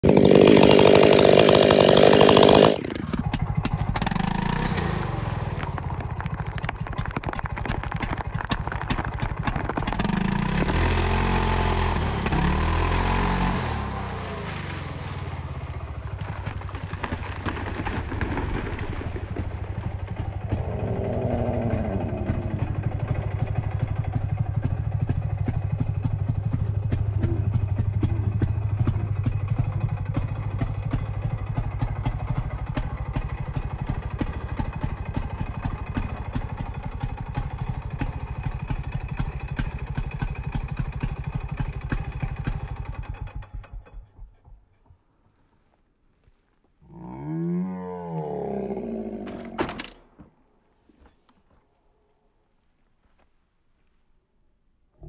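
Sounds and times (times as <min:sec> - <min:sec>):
chainsaw engine: 0:00.0 - 0:44.4.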